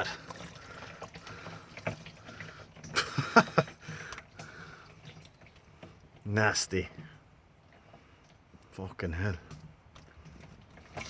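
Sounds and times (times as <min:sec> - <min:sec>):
oil trickling and splashing into drum: 0:00.0 - 0:11.0.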